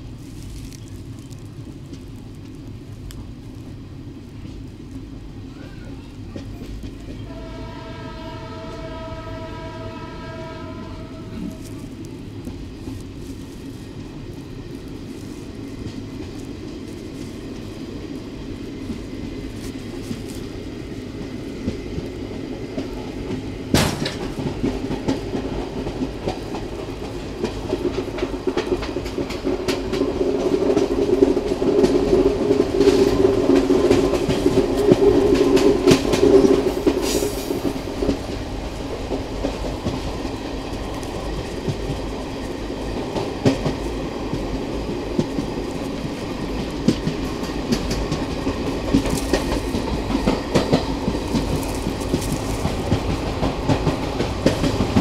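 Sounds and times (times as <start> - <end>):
train wheels rumbling and clacking: 0.0 - 55.0.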